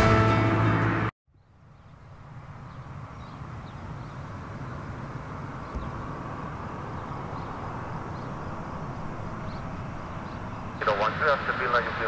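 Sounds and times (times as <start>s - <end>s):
airliner jet engines rumbling: 0.5s - 12.0s.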